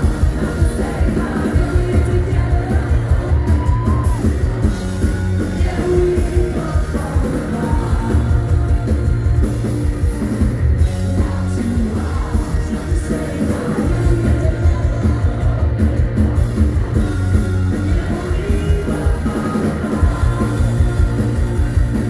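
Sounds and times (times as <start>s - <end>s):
singer's vocals: 0.0s - 9.4s, 11.0s - 17.0s, 17.7s - 21.7s
bass guitar: 0.0s - 22.0s
drums: 0.0s - 22.0s
electric guitar: 0.0s - 22.0s.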